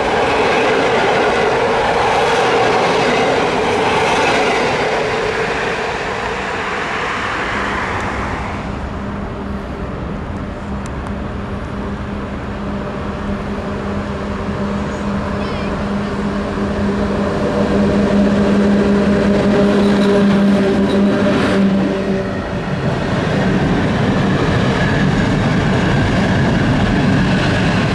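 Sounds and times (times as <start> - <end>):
train passing: 0.0 - 27.9.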